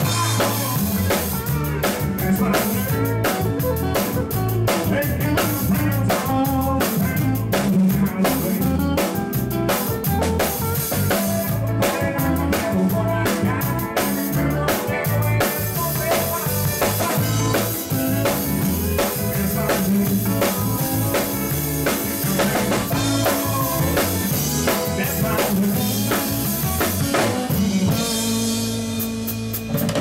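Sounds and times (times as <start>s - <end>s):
drum kit beat: 0.0s - 30.0s
live country band playing: 0.0s - 30.0s.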